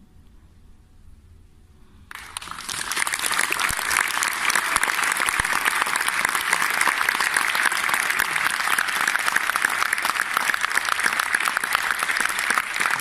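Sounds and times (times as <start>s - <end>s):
audience applause: 2.1s - 13.0s.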